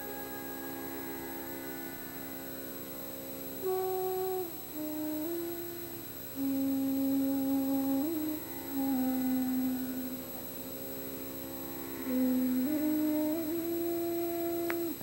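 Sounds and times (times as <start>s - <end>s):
slow music of held low notes: 0.0s - 15.0s.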